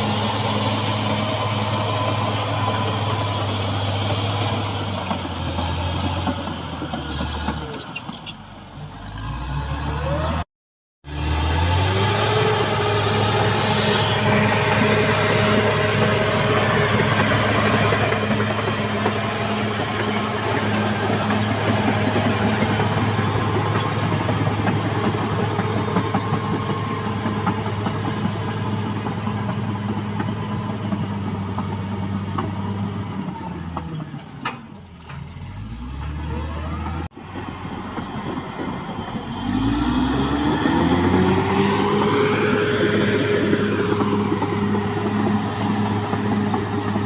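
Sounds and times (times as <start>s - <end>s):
bulldozer diesel engine running: 0.0s - 10.4s, 11.1s - 47.0s.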